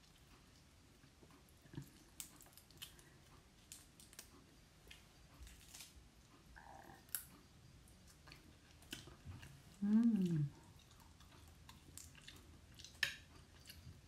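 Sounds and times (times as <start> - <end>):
soft chewing: 0.0 - 14.0.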